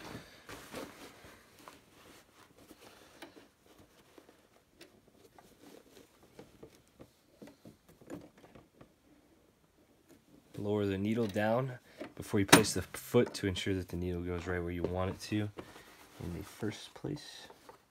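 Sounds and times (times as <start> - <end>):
rustling of uniform fabric: 0.0 - 17.9.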